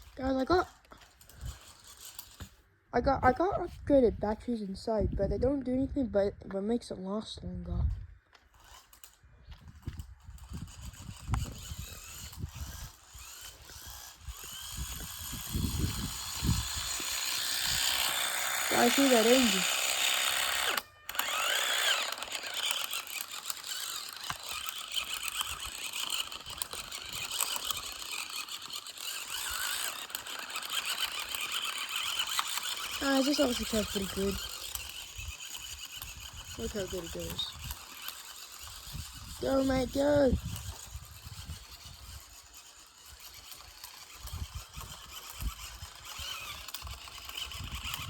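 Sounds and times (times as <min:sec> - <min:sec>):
toy car gears rattling: 0:00.0 - 0:02.7, 0:08.4 - 0:48.0
electric motor whine: 0:08.3 - 0:48.0.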